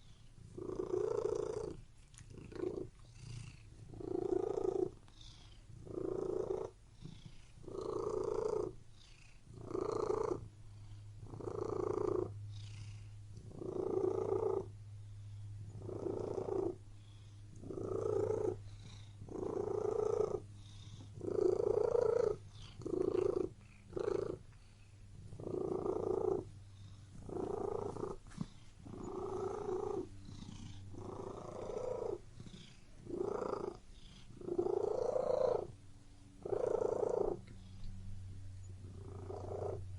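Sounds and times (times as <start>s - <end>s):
cat purring: 0.0s - 39.9s
steady low hum: 0.0s - 39.9s.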